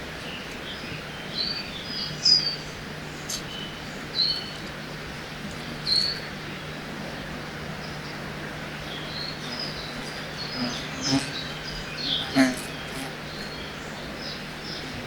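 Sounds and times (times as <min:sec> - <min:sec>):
birds chirping: 0:00.2 - 0:15.0.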